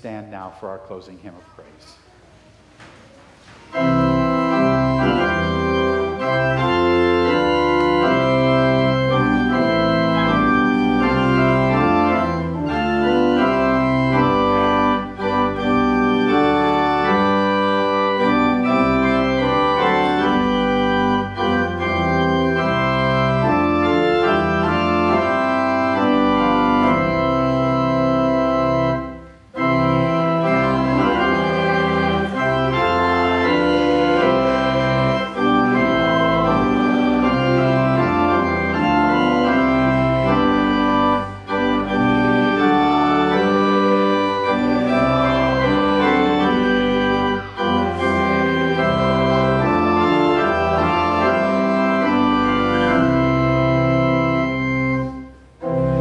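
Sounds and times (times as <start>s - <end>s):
church organ playing a hymn: 3.6s - 56.0s.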